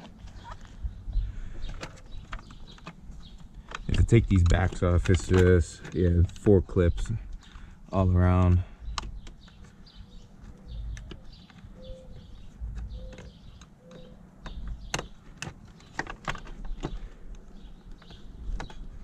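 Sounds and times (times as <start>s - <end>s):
plastic clicks and scraping: 1.6s - 7.7s, 8.4s - 19.0s.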